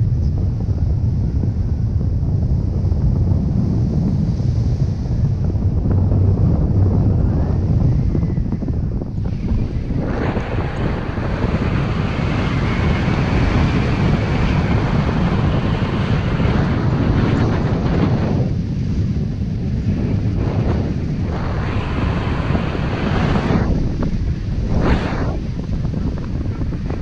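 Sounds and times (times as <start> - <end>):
wind blowing across microphone: 0.0 - 27.0.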